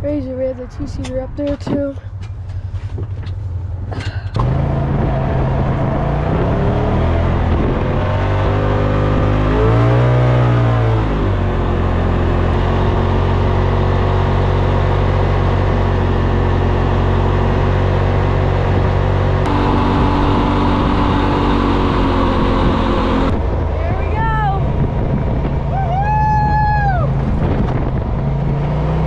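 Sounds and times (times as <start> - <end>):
off-road vehicle engine revving: 3.8 - 29.0.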